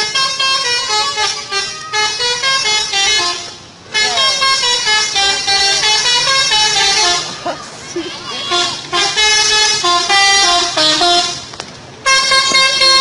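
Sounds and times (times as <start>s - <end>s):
musical air horn melody: 0.0s - 7.4s, 8.3s - 13.0s.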